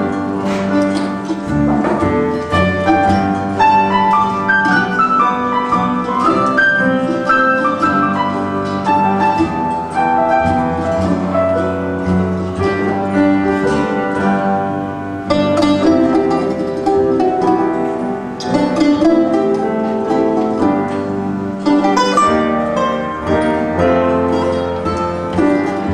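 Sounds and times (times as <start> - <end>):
acoustic guitar waltz: 0.0 - 25.9.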